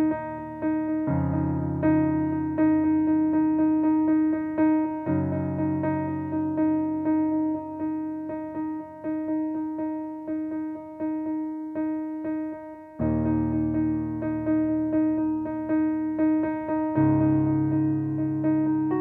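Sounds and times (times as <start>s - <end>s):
jazz piano: 0.0s - 19.0s.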